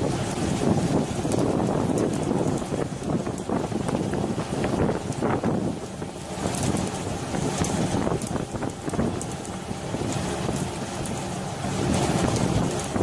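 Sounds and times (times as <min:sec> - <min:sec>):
sea water rushing and splashing: 0:00.0 - 0:13.0
wind buffeting microphone: 0:00.0 - 0:13.0.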